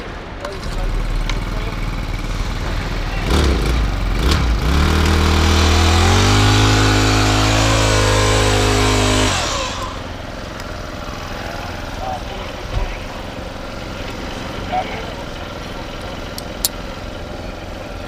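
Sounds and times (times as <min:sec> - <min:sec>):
small petrol engine revving: 0:00.4 - 0:18.0.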